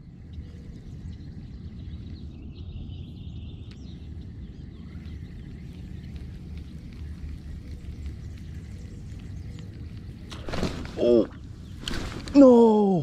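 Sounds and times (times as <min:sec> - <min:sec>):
faint bird chirps: 0:00.0 - 0:13.0
low outdoor rumble: 0:00.0 - 0:13.0.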